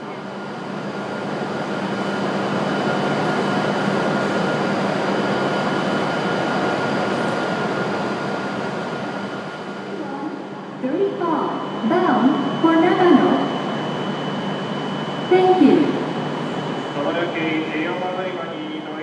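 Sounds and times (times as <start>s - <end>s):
high steady whine: 0.0s - 19.0s
steady hum: 0.0s - 19.0s
train running past: 0.0s - 19.0s.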